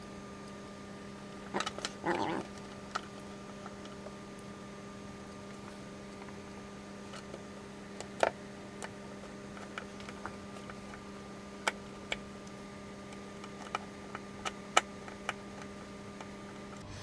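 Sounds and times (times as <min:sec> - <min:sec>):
cables and connectors clicking: 0:00.0 - 0:16.8
steady electrical hum: 0:00.0 - 0:17.0.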